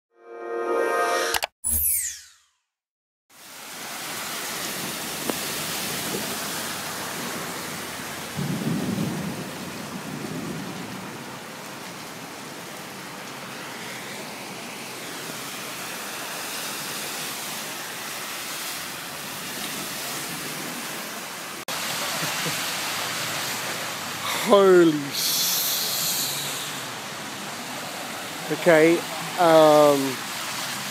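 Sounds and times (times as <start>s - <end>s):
heavy rain downpour: 3.3s - 30.9s.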